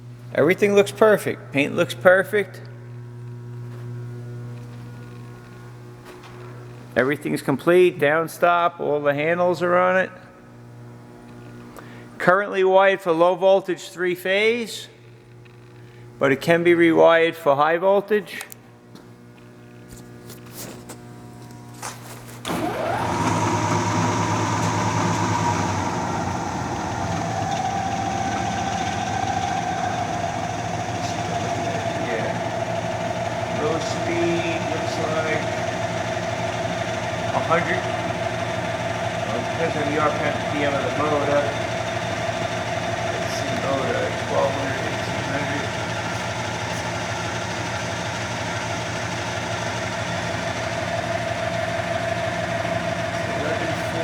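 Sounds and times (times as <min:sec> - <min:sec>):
drill press humming and whining: 0:00.0 - 0:08.1, 0:10.2 - 0:12.2, 0:15.0 - 0:16.2, 0:18.7 - 0:54.0.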